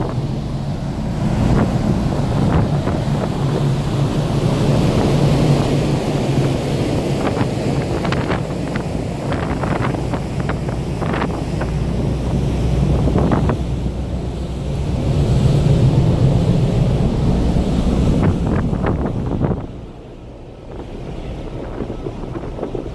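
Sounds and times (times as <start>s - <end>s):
ship engines humming: 0.0s - 22.9s
wind buffeting microphone: 0.0s - 22.9s.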